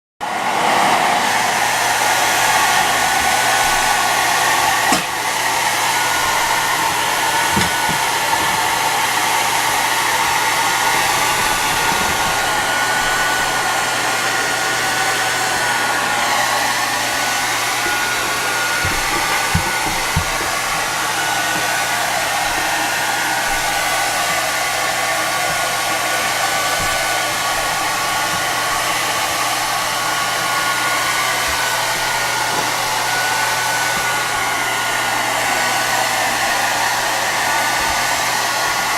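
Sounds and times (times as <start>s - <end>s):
hair dryer blowing: 0.2s - 38.9s.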